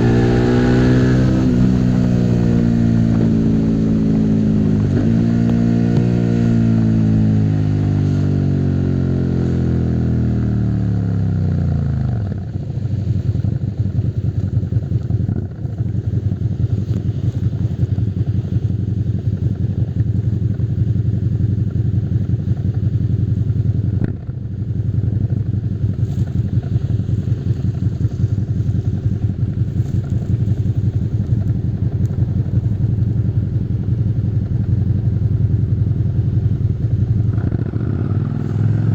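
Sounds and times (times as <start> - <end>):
motorcycle engine decelerating: 0.0 - 38.9.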